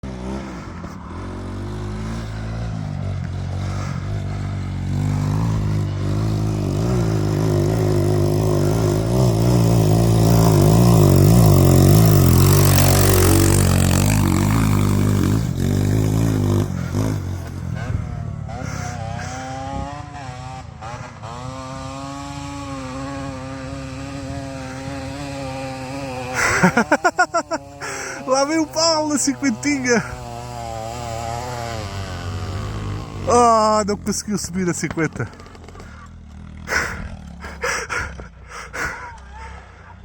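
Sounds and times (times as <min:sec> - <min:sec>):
small motorcycle engine revving: 0:00.0 - 0:40.0.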